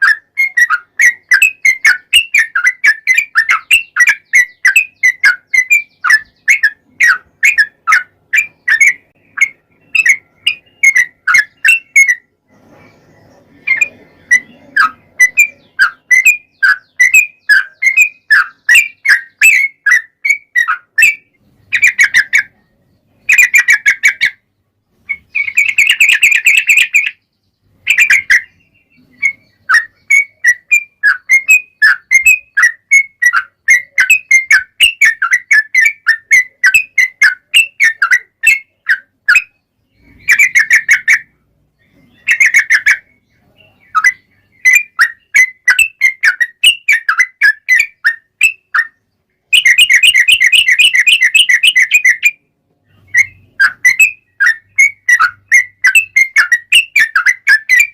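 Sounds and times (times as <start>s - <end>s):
bird singing chirpy notes: 0.0s - 57.9s.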